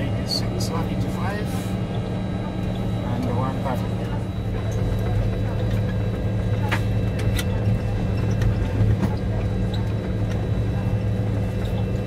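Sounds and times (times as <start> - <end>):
aircraft engine hum: 0.0 - 12.0
faint steady whines: 0.0 - 12.0.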